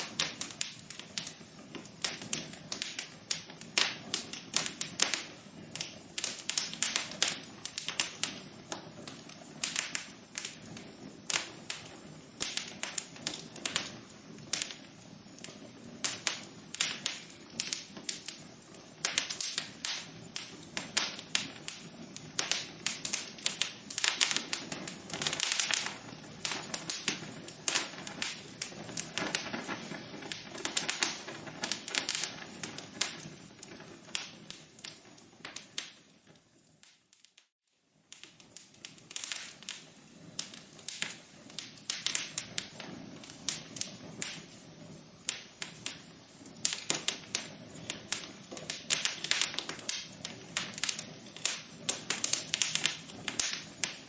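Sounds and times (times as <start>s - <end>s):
soft hiss: 0.0s - 54.0s
wood fire crackling: 0.0s - 54.0s.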